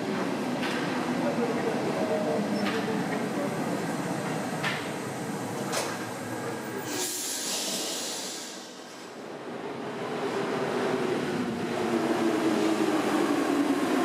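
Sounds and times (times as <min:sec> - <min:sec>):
metro train running: 0:00.0 - 0:14.0.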